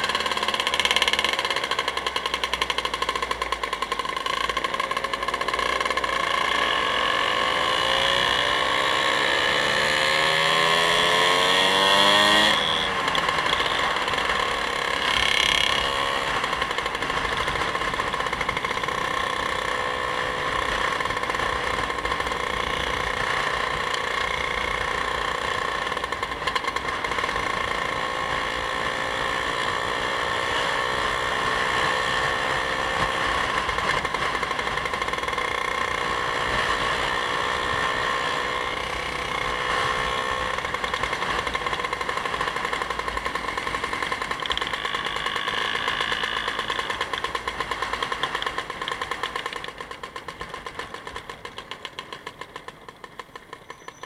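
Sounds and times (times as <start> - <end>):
vehicle engine accelerating: 0.0 - 50.8.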